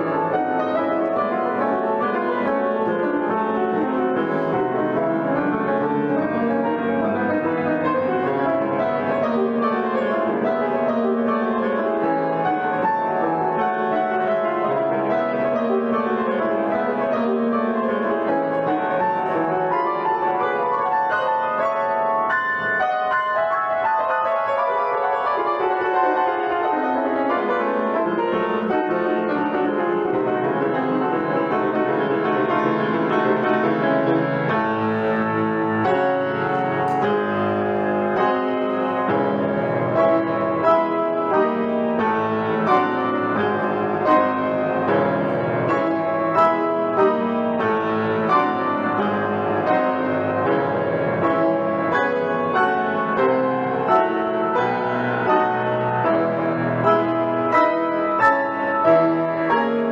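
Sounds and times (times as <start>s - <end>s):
solo piano playing: 0.0s - 59.9s.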